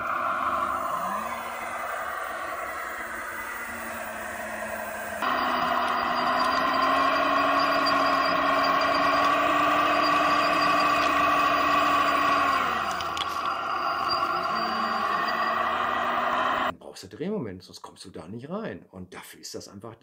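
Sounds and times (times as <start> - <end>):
model wheel loader motor running: 0.0 - 16.7.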